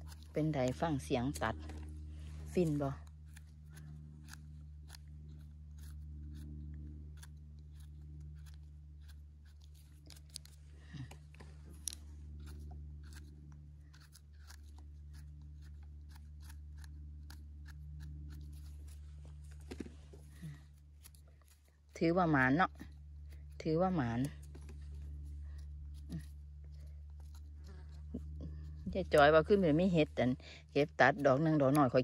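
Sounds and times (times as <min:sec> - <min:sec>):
knife cutting mushroom stems: 0:00.0 - 0:30.1
steady low hum: 0:00.0 - 0:32.0.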